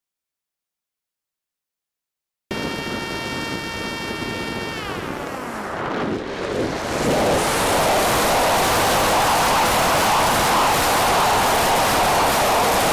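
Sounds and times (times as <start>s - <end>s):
electric motor and propeller whine: 2.5s - 12.9s
wind rushing on microphone: 2.5s - 12.9s.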